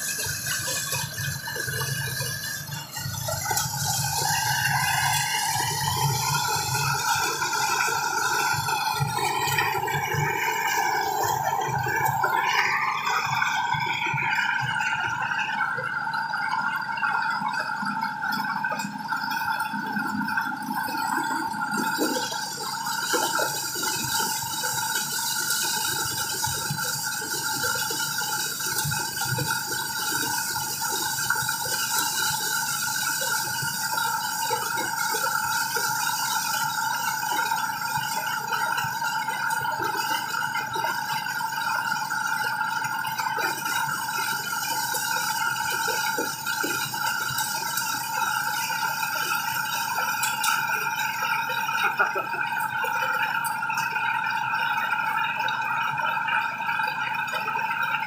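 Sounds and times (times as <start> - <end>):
corn sheller whining: 0.0 - 16.0, 19.7 - 54.2.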